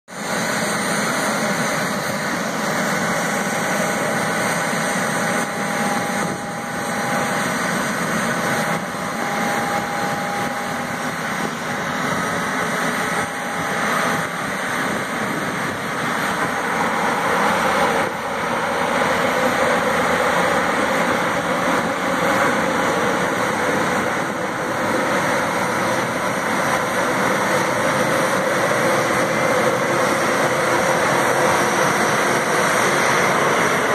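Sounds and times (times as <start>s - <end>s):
jet engine whine and rush: 0.1s - 33.9s.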